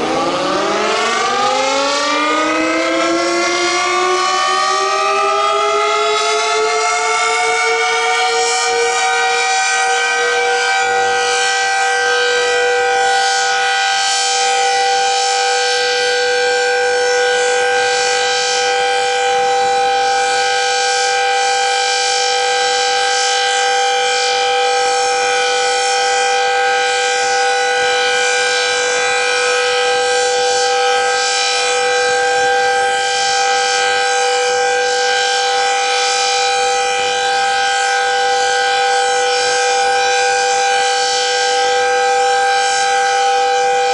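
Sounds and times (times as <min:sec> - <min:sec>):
steady siren wail: 0:00.0 - 0:43.9.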